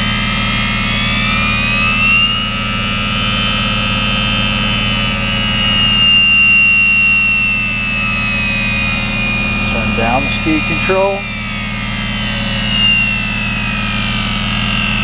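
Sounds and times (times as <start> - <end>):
lathe motor whining: 0.0 - 15.0.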